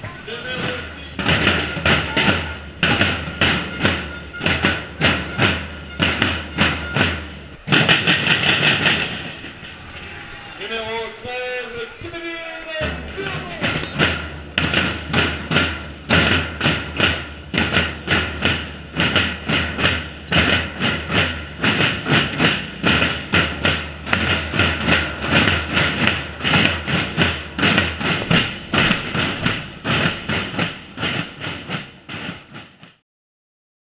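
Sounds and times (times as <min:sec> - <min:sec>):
snare and bass drums playing: 0:00.0 - 0:33.0.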